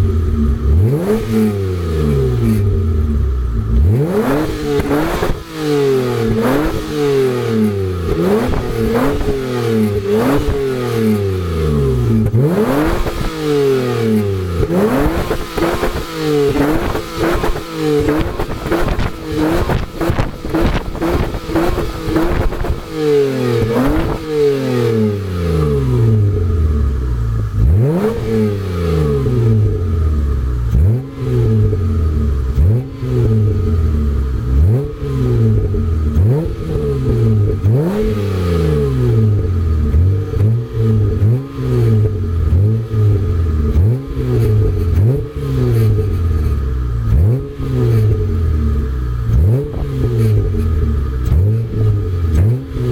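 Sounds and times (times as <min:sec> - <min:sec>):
exhaust cracks: 0:00.0 - 0:24.3, 0:25.8 - 0:52.9
car engine revving: 0:00.0 - 0:52.9.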